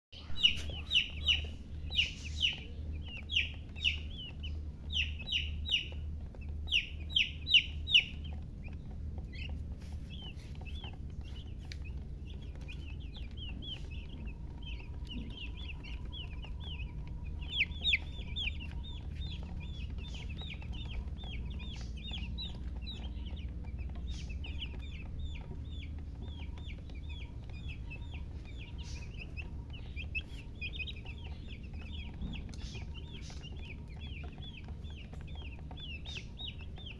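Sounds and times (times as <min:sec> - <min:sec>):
baby chicks peeping: 0:00.1 - 0:36.9
steady low hum: 0:00.2 - 0:36.9.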